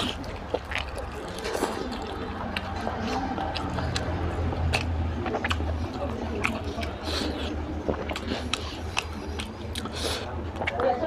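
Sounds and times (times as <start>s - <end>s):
wet chewing and lip smacking: 0.0s - 11.0s.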